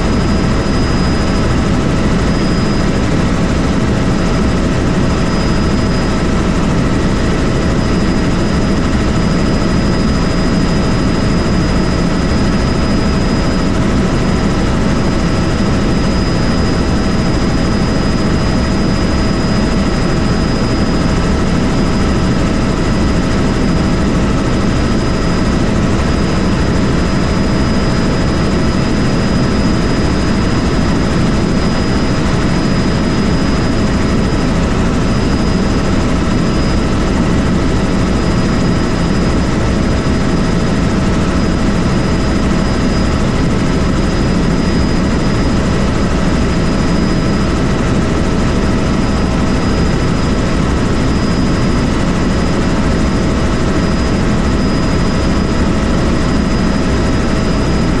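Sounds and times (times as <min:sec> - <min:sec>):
helicopter rotor and engine: 0:00.0 - 0:58.0
high whine: 0:00.0 - 0:58.0.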